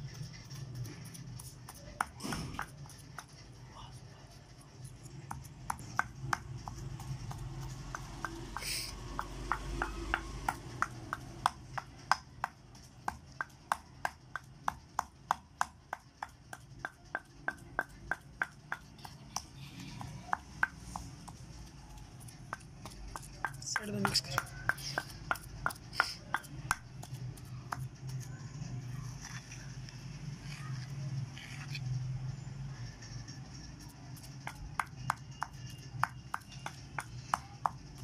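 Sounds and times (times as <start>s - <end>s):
pestle pounding in mortar: 0.0s - 3.6s, 5.0s - 28.3s, 34.2s - 38.0s.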